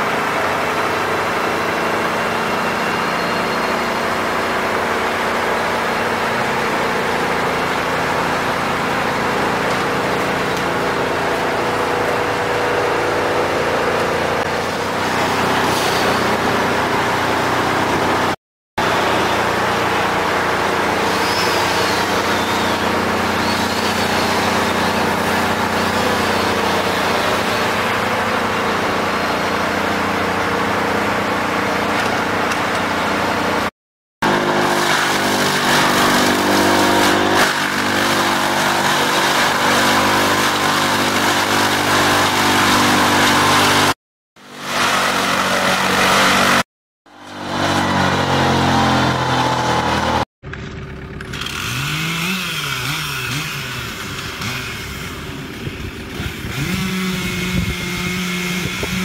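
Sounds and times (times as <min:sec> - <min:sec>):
engine revving: 0:00.0 - 0:59.0
machinery engines running: 0:00.0 - 0:59.0
wood chipper grinding branches: 0:00.0 - 0:59.0.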